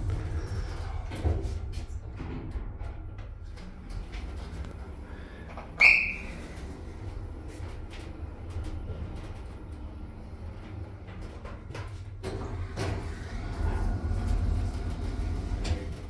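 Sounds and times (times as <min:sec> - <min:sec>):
low hum of lift car: 0:00.0 - 0:16.0.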